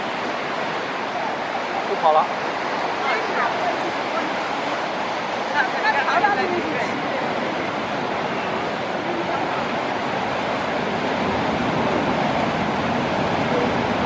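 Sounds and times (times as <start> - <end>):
ocean surf breaking on rocks: 0.0 - 14.0.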